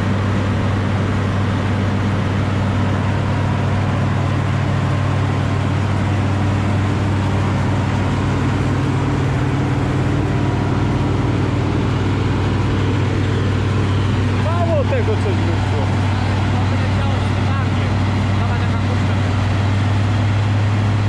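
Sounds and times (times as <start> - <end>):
combine harvester engine running: 0.0 - 21.0.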